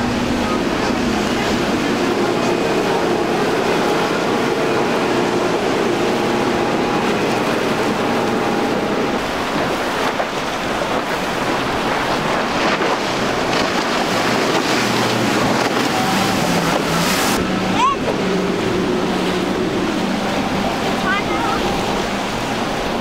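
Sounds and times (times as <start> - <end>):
boat engines running: 0.0 - 23.0
rush of spray and waves: 0.0 - 23.0.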